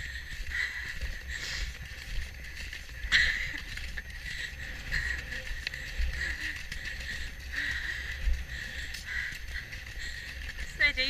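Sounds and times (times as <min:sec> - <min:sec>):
horse galloping on grass: 0:00.0 - 0:11.0
tack creaking and rattling: 0:00.0 - 0:11.0.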